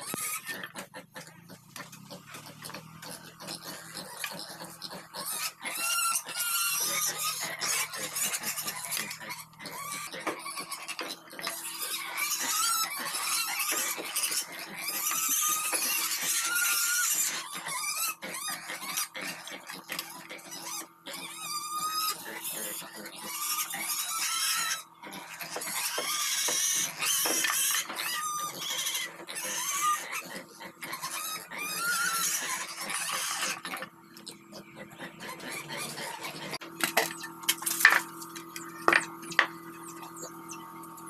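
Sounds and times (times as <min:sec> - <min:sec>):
pigs squealing: 0:00.0 - 0:41.0.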